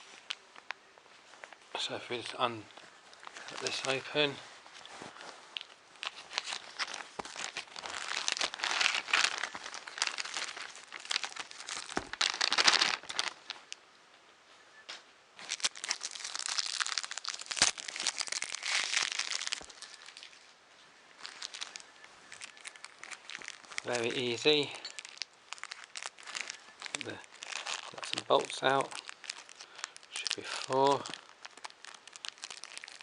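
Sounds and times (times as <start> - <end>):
plastic packaging crinkling: 1.8 - 13.8, 15.4 - 33.0.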